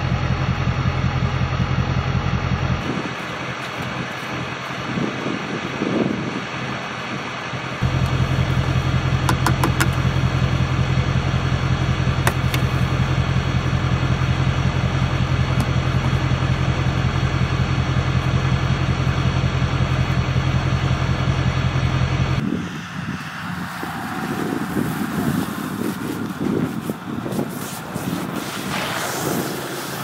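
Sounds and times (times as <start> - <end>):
truck engine idling: 0.0 - 27.4.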